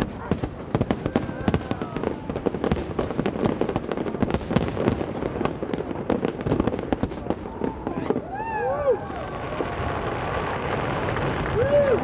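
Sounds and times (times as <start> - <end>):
fireworks crackling: 0.0 - 12.0
fireworks popping and banging: 0.0 - 12.0.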